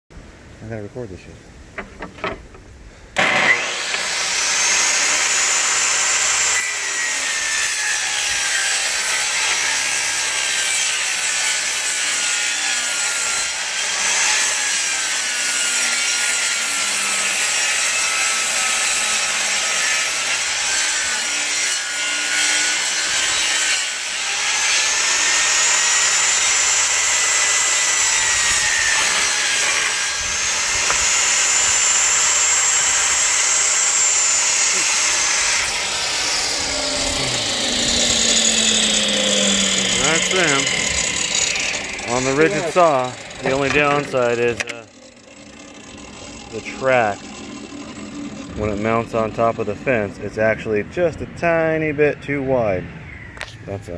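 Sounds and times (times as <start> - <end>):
table saw ripping wood: 3.2 - 49.6.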